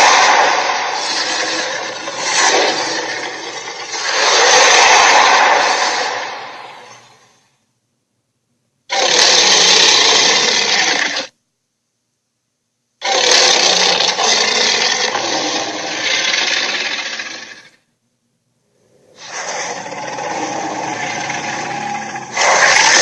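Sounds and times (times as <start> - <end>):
dinosaur roar: 0.0 - 7.2, 8.9 - 11.3, 13.0 - 17.8, 18.9 - 23.0.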